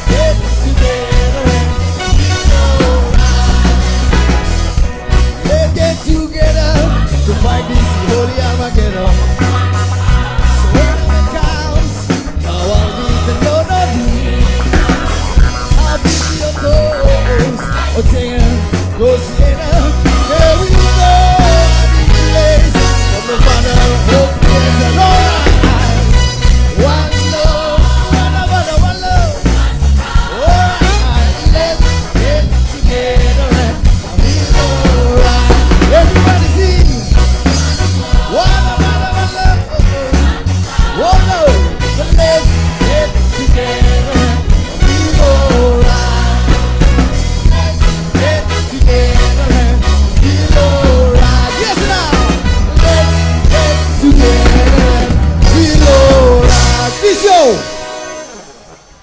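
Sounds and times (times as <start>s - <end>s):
choir singing: 0.0s - 58.6s
reggae band playing: 0.0s - 59.0s.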